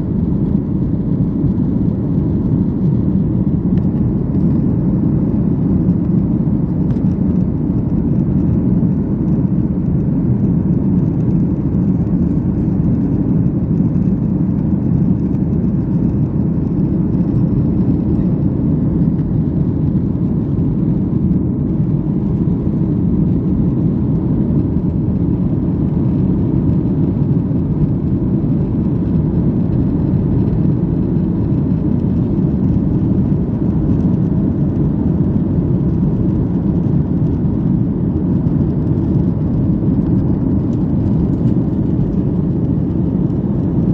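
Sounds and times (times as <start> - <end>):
airplane cabin engine rush: 0.0 - 43.9.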